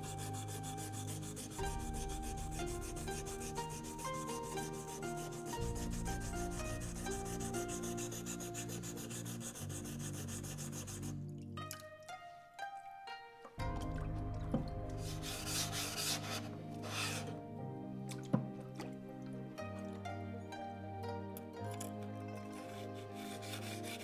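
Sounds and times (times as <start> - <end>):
soft melodic music: 0.0 - 24.0.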